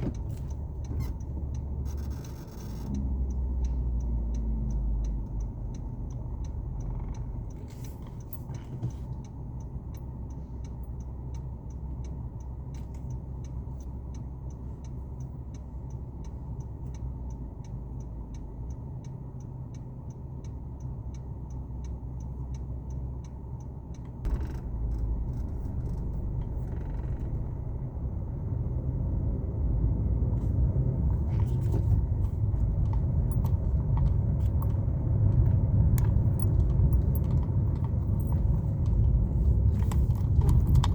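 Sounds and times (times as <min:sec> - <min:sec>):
light even ticking: 0:00.0 - 0:31.2, 0:32.0 - 0:40.9
car road and engine rumble: 0:00.0 - 0:40.9.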